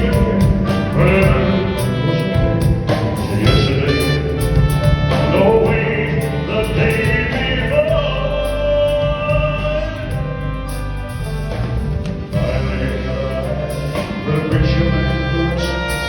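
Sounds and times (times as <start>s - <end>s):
person singing pop ballad: 0.0s - 11.1s, 12.2s - 16.0s
backing band: 0.0s - 16.0s
choir-like backing voices: 0.0s - 16.0s.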